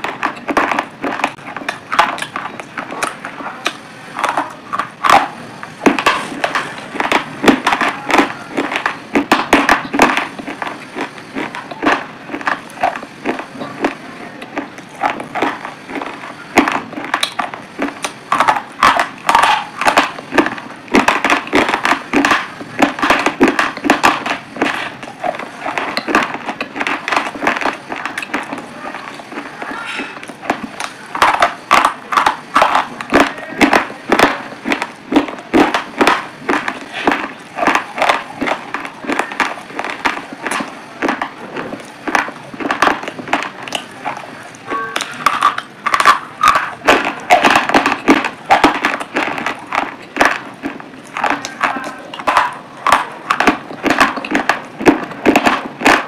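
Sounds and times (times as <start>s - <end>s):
crunching and chewing: 0.0s - 56.0s.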